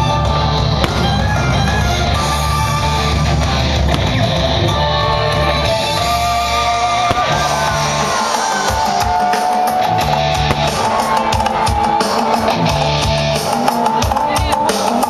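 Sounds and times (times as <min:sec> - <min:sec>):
loud rock music with guitar: 0:00.0 - 0:15.0.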